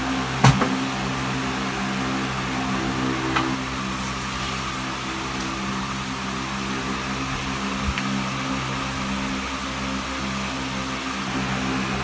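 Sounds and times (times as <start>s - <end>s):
electrical mains hum with hiss: 0.0s - 12.0s.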